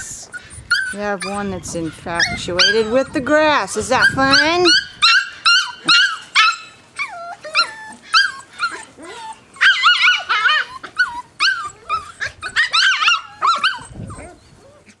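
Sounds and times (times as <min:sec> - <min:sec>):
puppies yipping and whining: 0:00.0 - 0:15.0.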